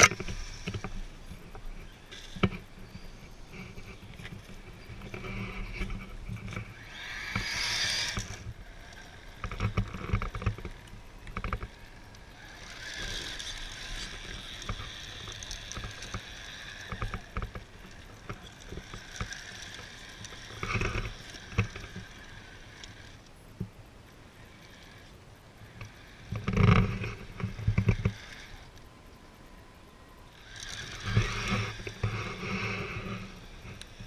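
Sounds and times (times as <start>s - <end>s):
electric motor and gear whine: 0.0s - 34.0s.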